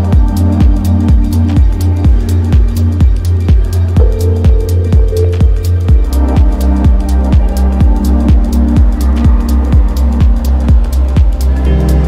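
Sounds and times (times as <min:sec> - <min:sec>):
electronic music: 0:00.0 - 0:12.0
kick drum beat: 0:00.0 - 0:12.0.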